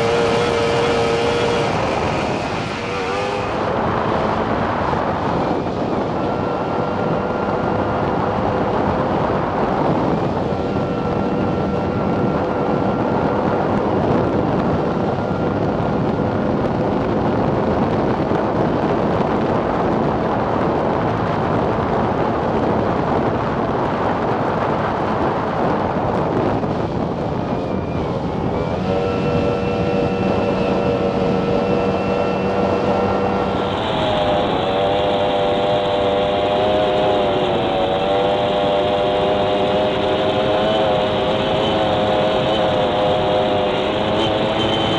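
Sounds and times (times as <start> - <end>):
powerboat engine at high speed: 0.0 - 44.9
rush of wind and water spray: 0.0 - 44.9.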